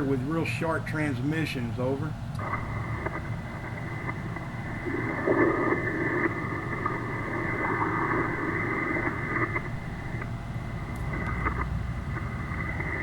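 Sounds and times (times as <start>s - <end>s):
shortwave radio static: 0.0s - 13.0s.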